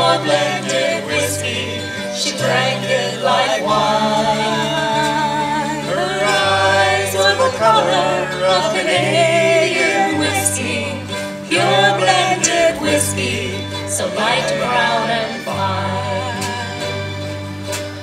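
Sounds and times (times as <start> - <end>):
wavering melody line: 0.0 - 17.0
bass notes: 0.0 - 18.0
strummed acoustic guitars: 0.0 - 18.0.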